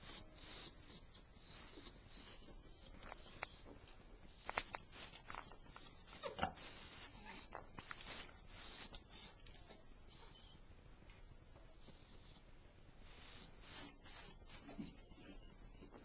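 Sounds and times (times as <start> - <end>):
puppies squeaking: 0.0 - 10.6, 11.8 - 12.4, 13.0 - 16.0
faint shuffling and clicks: 0.0 - 16.0.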